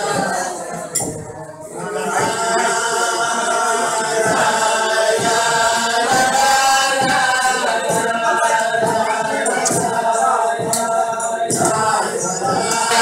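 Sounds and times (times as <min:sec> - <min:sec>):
men singing in chorus: 0:00.0 - 0:13.0.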